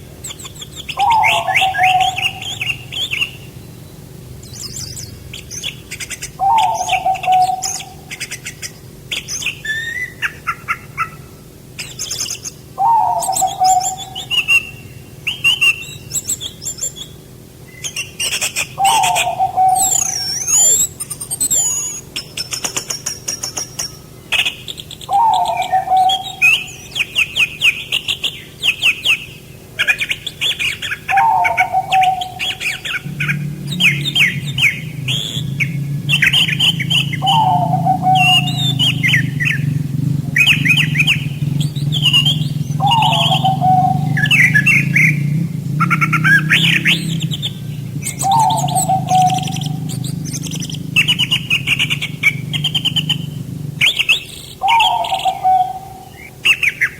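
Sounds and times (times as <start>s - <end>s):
low steady hum: 0.0s - 56.9s
songbirds chirping trills: 0.0s - 56.9s
downward-sliding bird whistle: 0.2s - 3.4s, 11.8s - 29.2s, 29.8s - 39.8s, 40.4s - 45.2s, 45.8s - 56.9s.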